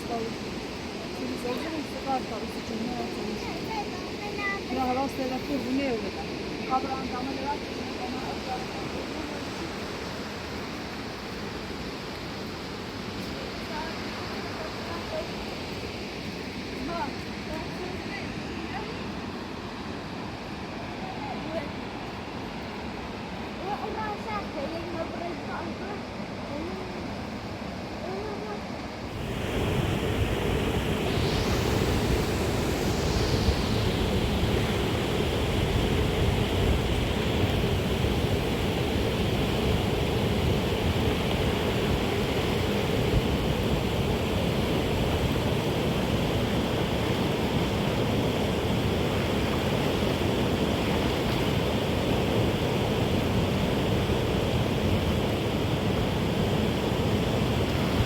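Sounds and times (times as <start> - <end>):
river rushing: 0.0 - 58.0.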